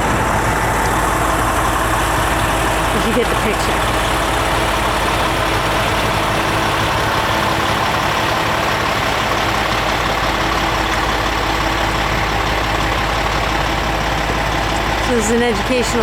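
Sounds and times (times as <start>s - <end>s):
heavy engine idling: 0.0s - 16.0s.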